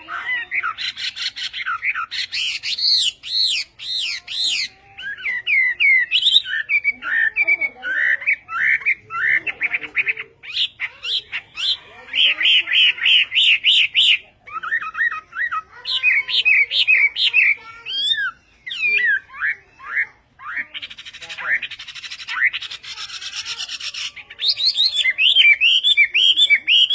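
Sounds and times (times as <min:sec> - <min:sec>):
bird singing whistled phrases: 0:00.0 - 0:26.9.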